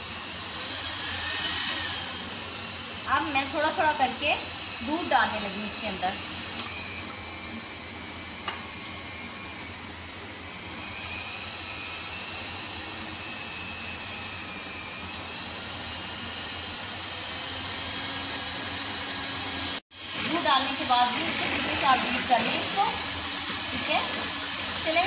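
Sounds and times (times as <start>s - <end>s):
electric hand mixer whirring: 0.0s - 25.0s.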